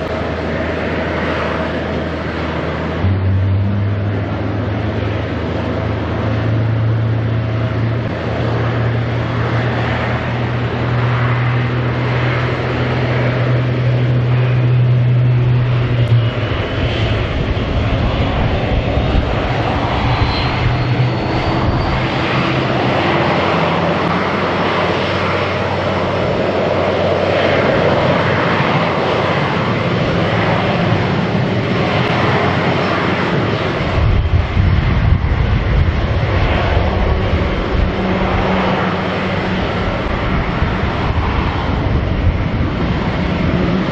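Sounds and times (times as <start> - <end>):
jet engines rushing roar: 0.0 - 43.9.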